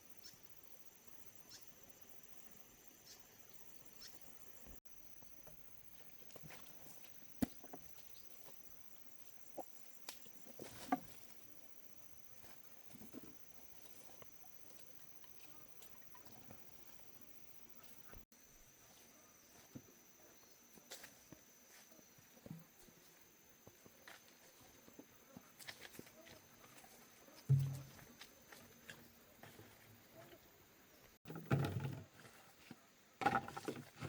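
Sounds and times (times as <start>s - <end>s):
insects chirring: 0.0s - 32.2s.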